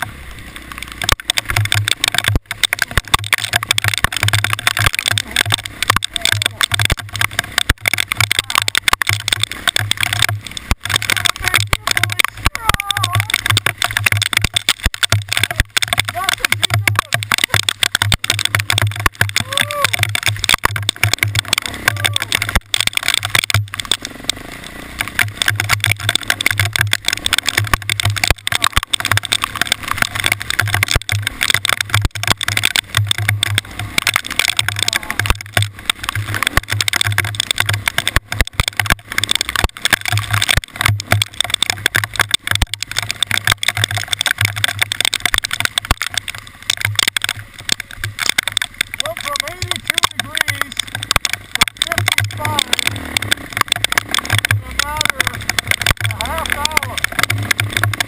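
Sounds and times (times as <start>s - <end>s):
sharp knocks and rattles: 0.0s - 58.0s
steady rush of noise: 0.0s - 58.0s
vehicle engine rumble: 0.0s - 58.0s.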